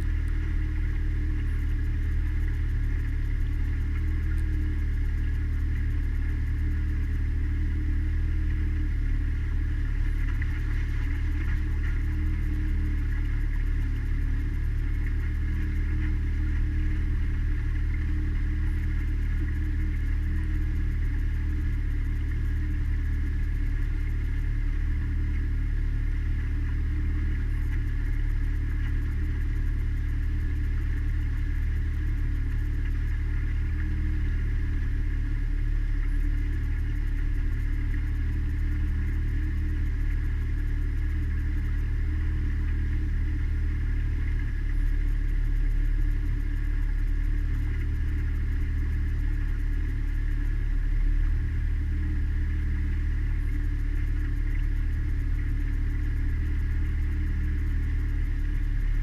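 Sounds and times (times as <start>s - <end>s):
outboard motor droning: 0.0s - 59.0s.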